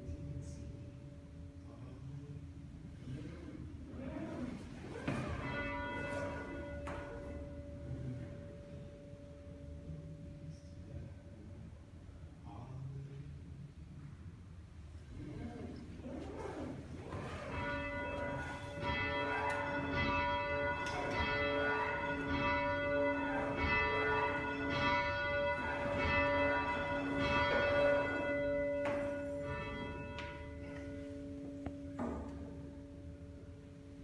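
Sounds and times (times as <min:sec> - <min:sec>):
church bell tolling: 0:00.0 - 0:03.2, 0:03.8 - 0:12.2, 0:16.2 - 0:34.0.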